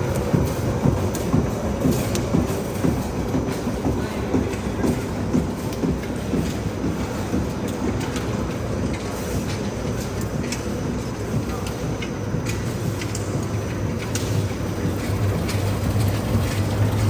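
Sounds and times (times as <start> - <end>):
welding machine rumble and hum: 0.0 - 17.0.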